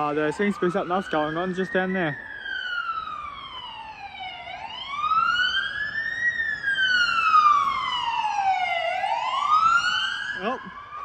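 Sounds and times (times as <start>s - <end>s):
emergency vehicle siren wailing: 0.0s - 11.0s.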